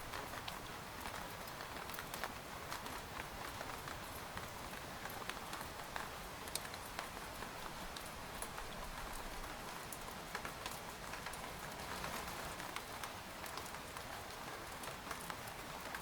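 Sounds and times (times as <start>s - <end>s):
rain pattering on tent fabric: 0.0s - 16.0s.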